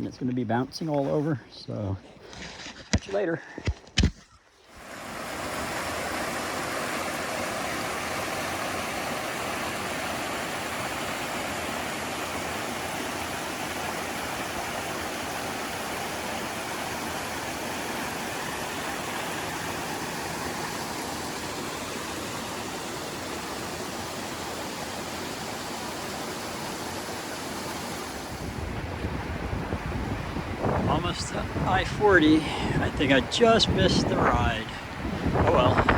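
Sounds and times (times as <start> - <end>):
stream rushing: 4.7 - 35.9.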